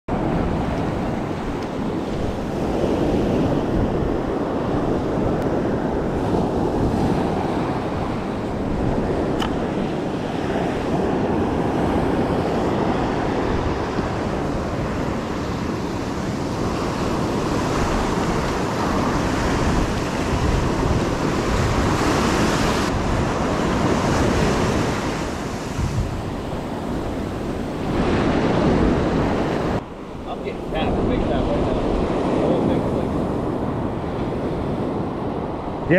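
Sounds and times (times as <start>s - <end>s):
ocean surf breaking: 0.1s - 35.9s
wind buffeting microphone: 0.1s - 35.9s.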